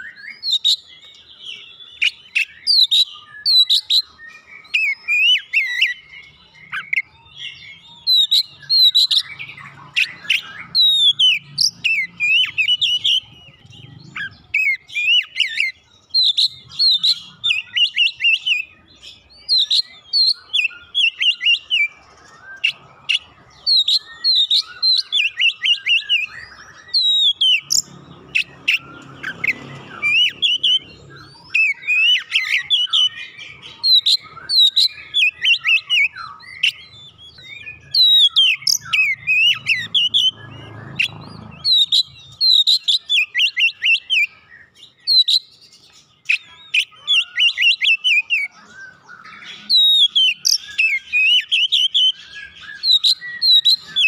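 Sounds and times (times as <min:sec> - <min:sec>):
magpie-robin singing: 0:00.0 - 0:54.0.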